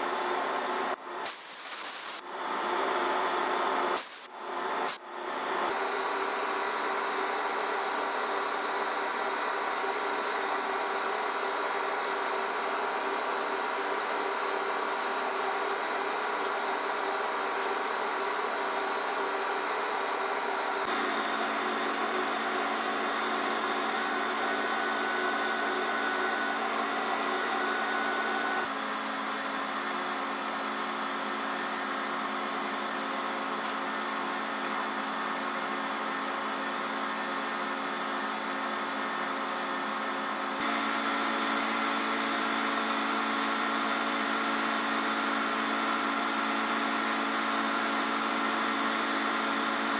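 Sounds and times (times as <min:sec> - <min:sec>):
engine room machinery hum: 0:00.0 - 0:49.9.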